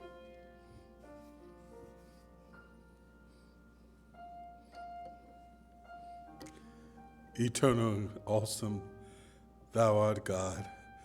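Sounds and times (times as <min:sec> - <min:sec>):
soft keyboard chords: 0:00.0 - 0:11.0.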